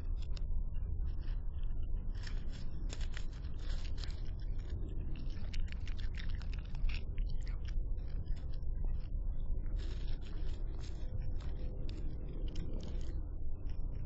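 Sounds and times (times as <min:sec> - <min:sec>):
raccoon crunching and chewing: 0:00.0 - 0:14.0
steady low hum: 0:00.0 - 0:14.0.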